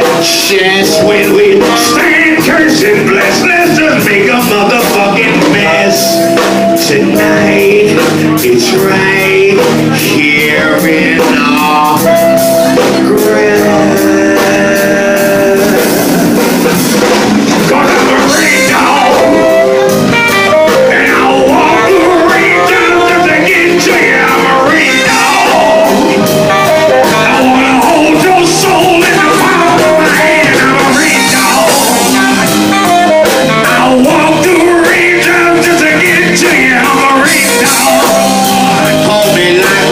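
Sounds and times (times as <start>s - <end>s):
blues-rock band playing: 0.0s - 39.9s
drum kit: 0.0s - 39.9s
electric guitar: 0.0s - 39.9s.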